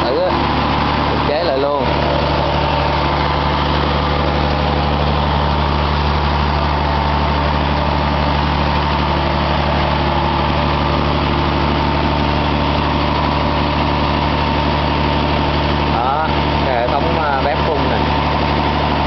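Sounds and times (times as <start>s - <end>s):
four-cylinder engine running: 0.0s - 19.0s.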